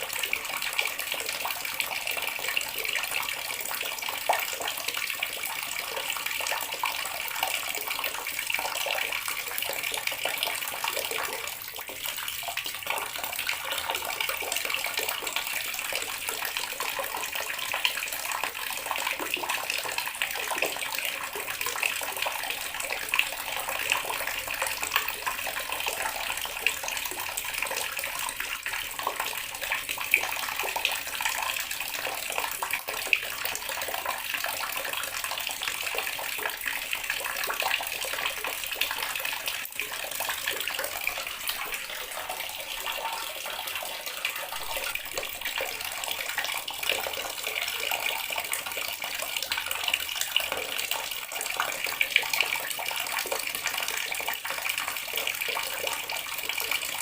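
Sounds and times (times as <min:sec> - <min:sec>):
water running from a tap: 0:00.0 - 0:57.0.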